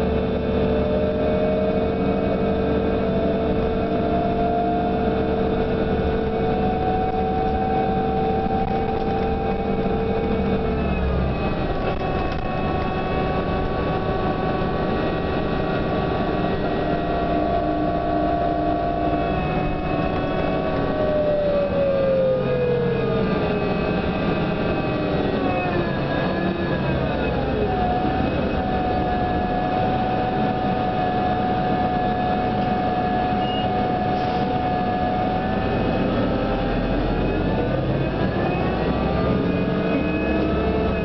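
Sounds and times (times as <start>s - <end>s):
bus engine drone: 0.0s - 41.0s.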